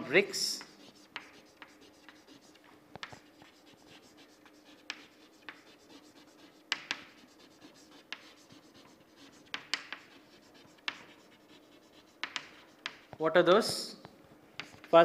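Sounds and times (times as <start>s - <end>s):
chalk scratching on chalkboard: 0.0s - 13.8s, 14.6s - 15.0s
faint steady hum: 0.0s - 15.0s
chalk tapping on board: 0.4s - 13.8s, 14.6s - 15.0s.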